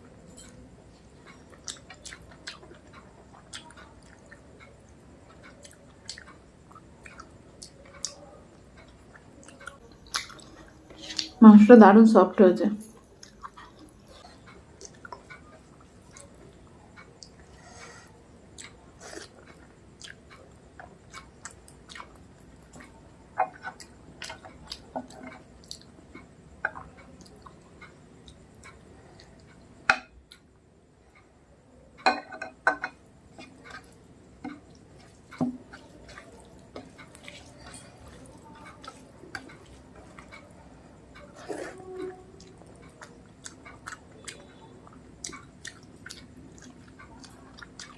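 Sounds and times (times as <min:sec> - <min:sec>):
person chewing food: 0:00.5 - 0:11.4, 0:13.0 - 0:30.5, 0:32.9 - 0:47.9.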